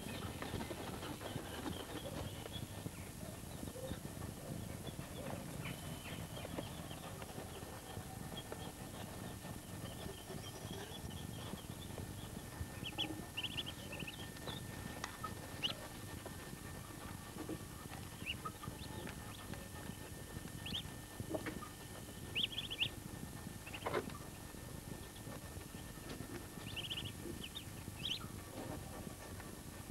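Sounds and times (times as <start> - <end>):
ducklings peeping: 0.0 - 29.9.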